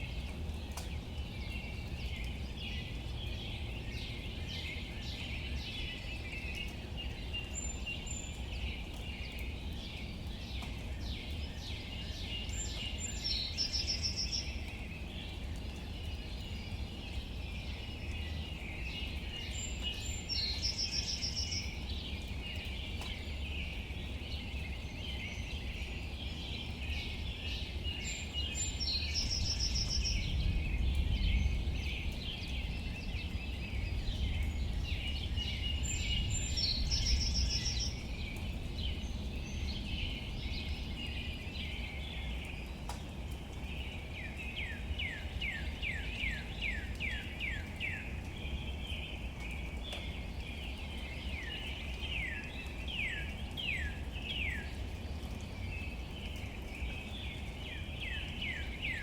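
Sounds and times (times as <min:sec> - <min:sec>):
birds chirping chorus: 0:00.0 - 0:59.0
low outdoor rumble and hiss: 0:00.0 - 0:59.0.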